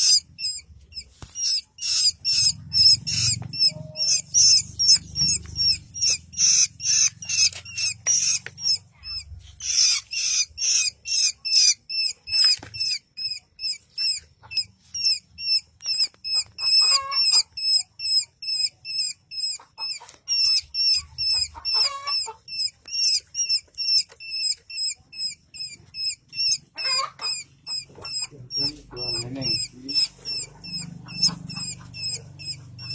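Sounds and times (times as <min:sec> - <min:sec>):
young bird chirping: 0:00.0 - 0:32.9.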